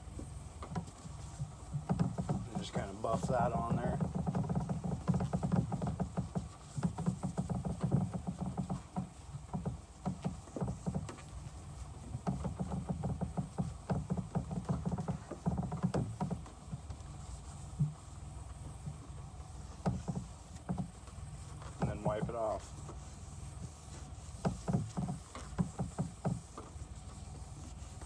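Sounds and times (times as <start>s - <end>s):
cloth rubbing on plastic: 0.4s - 28.0s.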